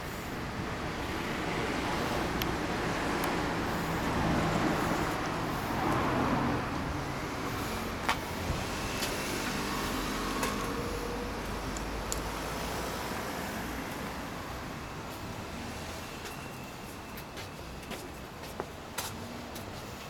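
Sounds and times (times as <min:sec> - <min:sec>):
vehicle engine rumbling: 0:00.0 - 0:17.1.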